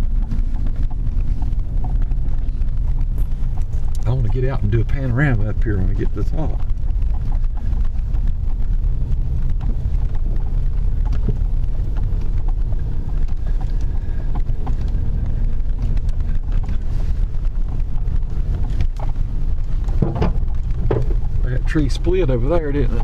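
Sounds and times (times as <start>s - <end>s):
knocks and rattles: 0.0s - 23.0s
truck engine and tyres rumbling: 0.0s - 23.0s.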